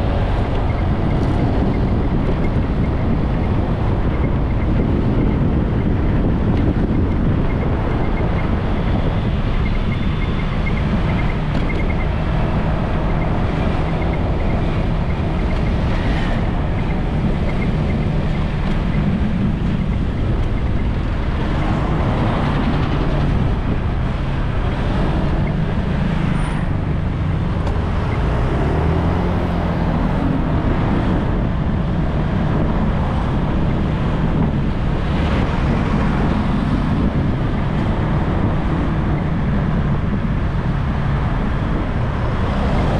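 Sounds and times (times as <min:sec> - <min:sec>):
cars and bus passing: 0:00.0 - 0:42.9
motorbike engine drone: 0:00.0 - 0:42.9.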